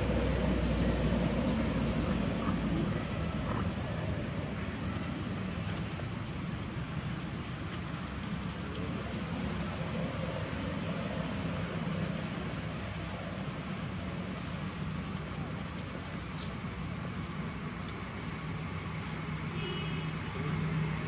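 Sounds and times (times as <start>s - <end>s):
insects chorus: 0.0s - 21.0s.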